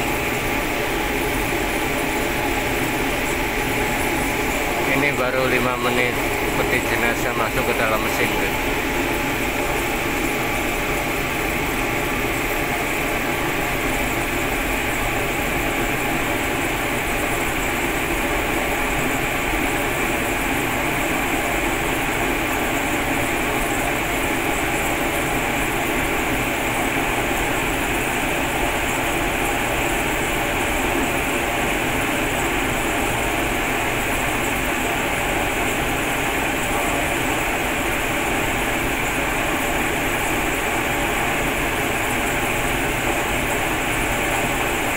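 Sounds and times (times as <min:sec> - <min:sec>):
furnace burners and fans rushing: 0:00.0 - 0:44.9.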